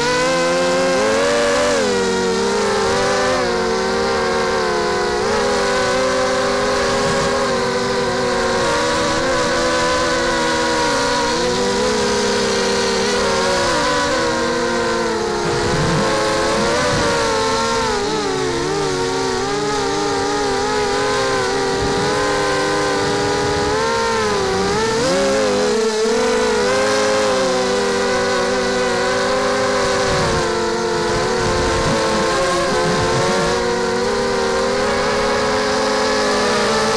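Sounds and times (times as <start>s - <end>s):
drone propellers whining: 0.0s - 36.9s.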